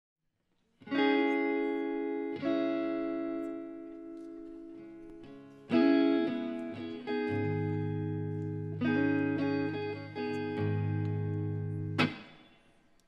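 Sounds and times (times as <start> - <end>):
electric guitar chords ringing: 0.8 - 12.6.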